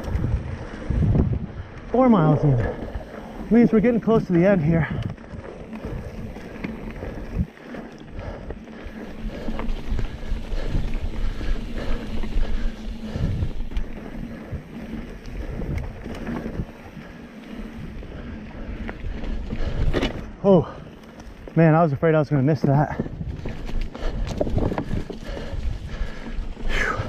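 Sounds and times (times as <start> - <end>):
wind buffeting microphone: 0.0 - 20.3, 22.5 - 27.0
bike clicks and rattles: 0.0 - 27.0
bike tyre noise on dirt: 0.0 - 27.0.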